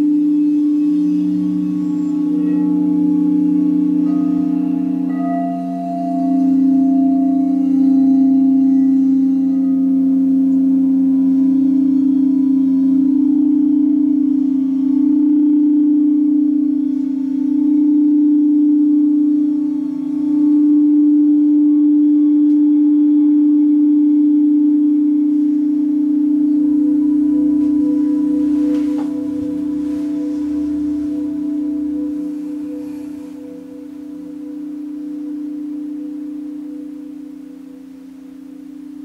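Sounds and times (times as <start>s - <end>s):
crystal singing bowls ringing: 0.0s - 39.0s.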